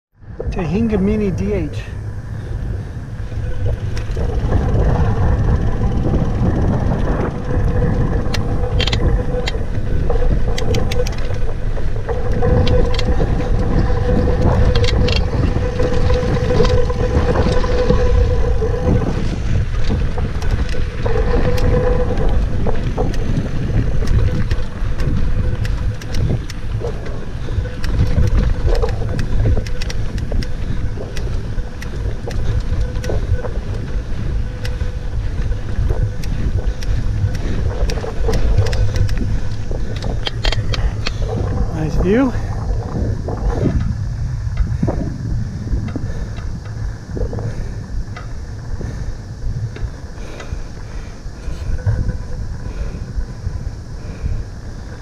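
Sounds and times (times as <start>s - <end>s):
bike clicks and rattles: 0.2s - 55.0s
bike tyres rumbling on dirt: 0.2s - 55.0s
steady hum: 0.2s - 55.0s
wind on microphone: 0.2s - 55.0s.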